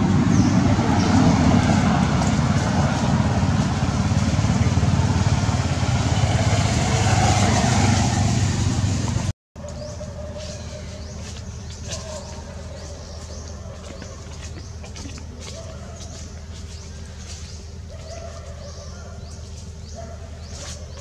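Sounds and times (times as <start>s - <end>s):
motor traffic engine and road noise: 0.0s - 21.0s.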